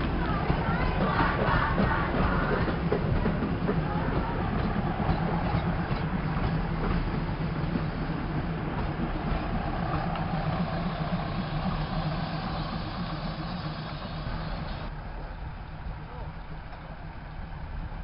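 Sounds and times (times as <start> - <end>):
diesel railcar engine humming: 0.0 - 18.0.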